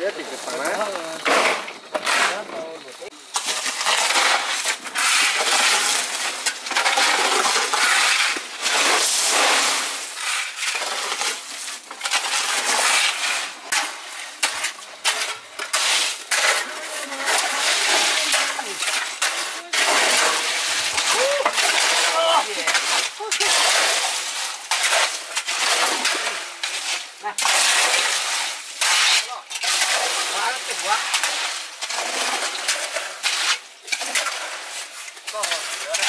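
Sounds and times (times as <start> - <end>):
gravel and concrete scraping: 0.0 - 36.0.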